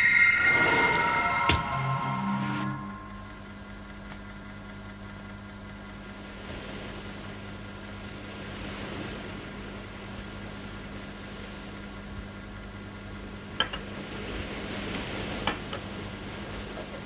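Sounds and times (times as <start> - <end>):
electrical hum and hiss: 1.0 - 17.0.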